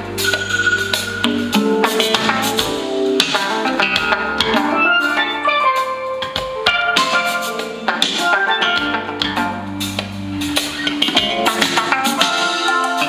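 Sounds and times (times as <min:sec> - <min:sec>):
song over a drum beat: 0:00.0 - 0:13.0.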